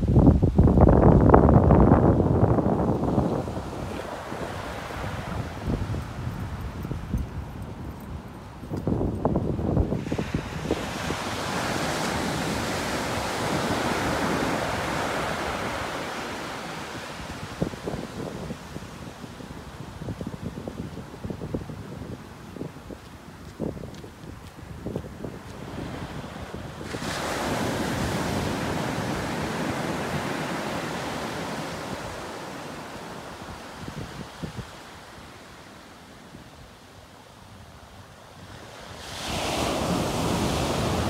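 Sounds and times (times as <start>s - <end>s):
small waves breaking on sand: 2.3s - 6.4s, 9.8s - 41.0s.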